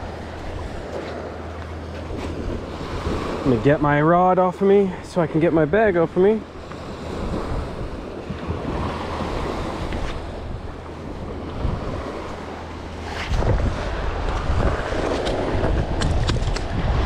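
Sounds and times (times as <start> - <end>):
surf washing up on beach: 0.0 - 17.0
wind buffeting microphone: 0.0 - 17.0.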